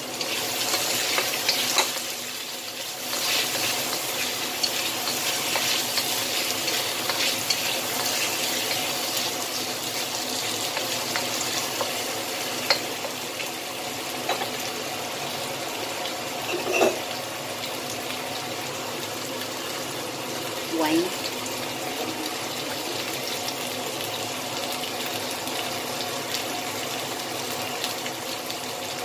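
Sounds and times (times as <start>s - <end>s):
chicken wings sizzling in oil: 0.0s - 29.0s.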